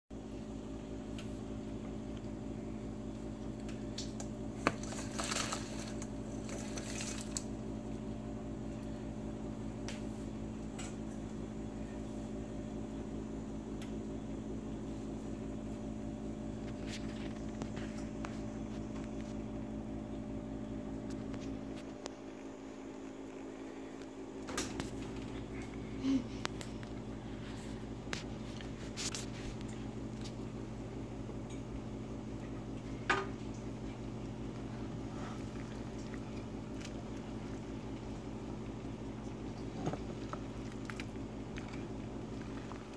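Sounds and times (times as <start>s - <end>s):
low mechanical hum: 0.1s - 42.9s.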